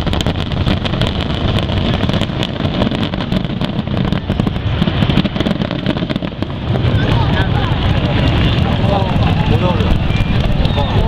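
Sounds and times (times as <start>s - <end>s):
fireworks crackling: 0.0s - 11.0s
low rumble of firework bursts: 0.0s - 11.0s.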